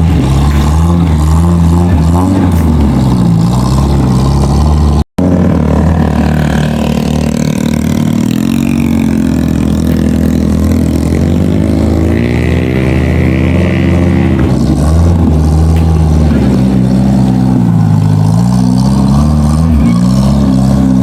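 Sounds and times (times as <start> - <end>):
off-road engine revving: 0.0 - 21.0.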